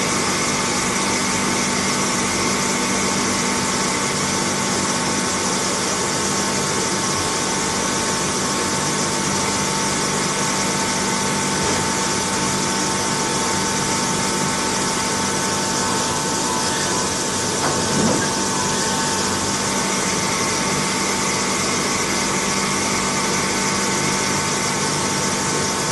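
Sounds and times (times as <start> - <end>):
lathe machining metal: 0.0 - 25.9.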